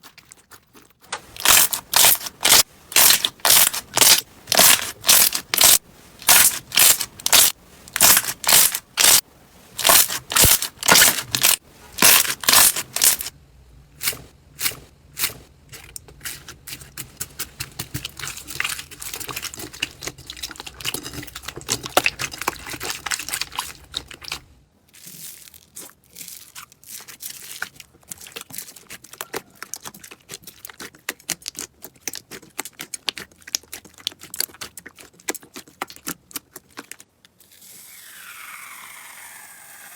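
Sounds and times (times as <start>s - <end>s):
crunchy slime crackling: 0.0s - 9.2s, 9.8s - 13.3s, 17.4s - 37.1s.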